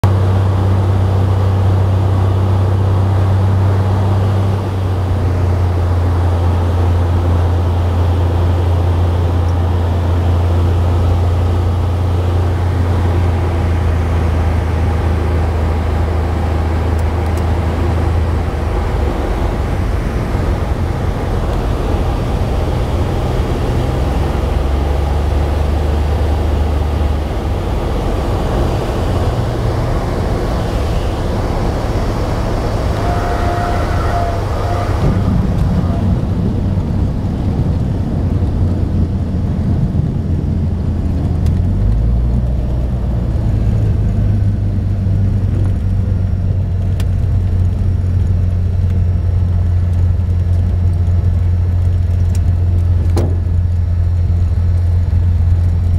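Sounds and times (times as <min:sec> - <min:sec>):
airplane engine and propeller droning: 0:00.0 - 0:55.9
plane rolling on grass rumble: 0:00.0 - 0:55.9.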